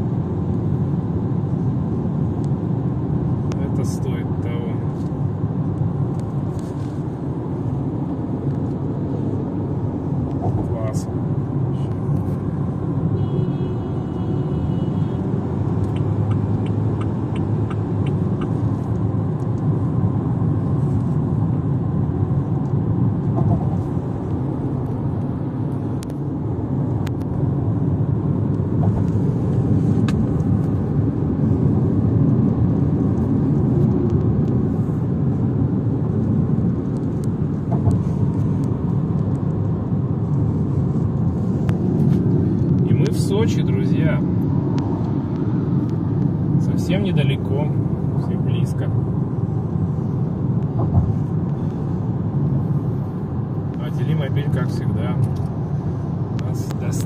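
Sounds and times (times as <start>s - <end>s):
car engine hum: 0.0s - 57.0s
road and tyre noise: 0.0s - 57.0s.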